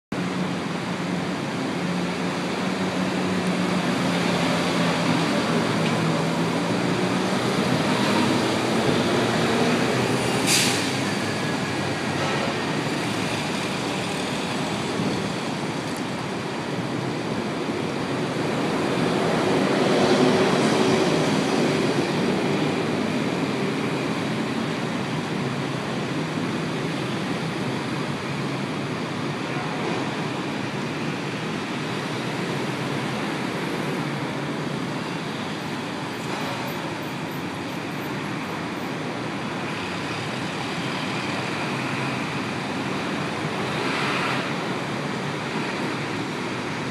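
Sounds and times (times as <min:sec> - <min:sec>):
traffic engines rumbling: 0:00.1 - 0:46.9.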